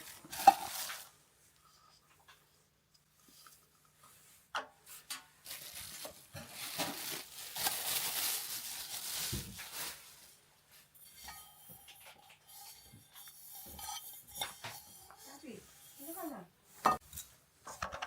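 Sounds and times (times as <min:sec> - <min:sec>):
rustling pattering noise: 0:00.0 - 0:18.0.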